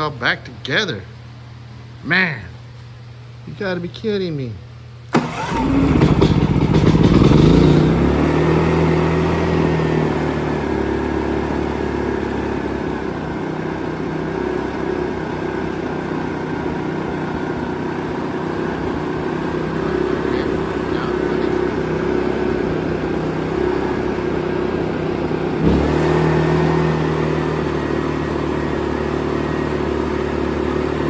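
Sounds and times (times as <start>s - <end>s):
generator engine running: 0.0s - 31.0s.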